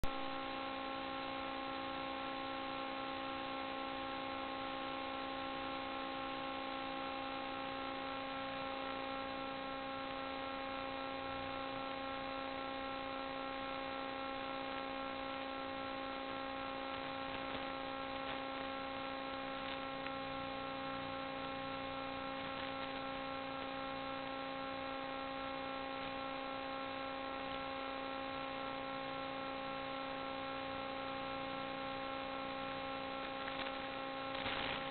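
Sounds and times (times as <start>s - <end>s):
electrical hum: 0.0s - 34.9s.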